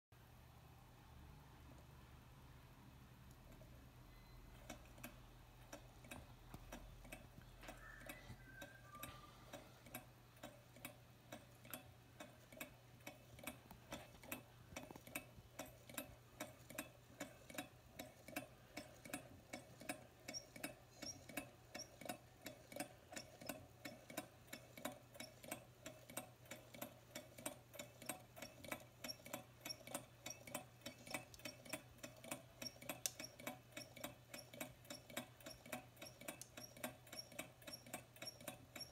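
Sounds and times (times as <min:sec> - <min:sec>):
engine mechanism clicking: 0:04.5 - 0:38.9.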